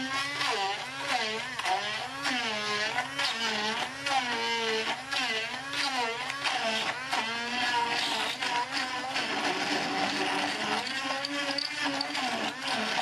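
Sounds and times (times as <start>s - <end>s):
stick blender grinding food: 0.0s - 13.0s.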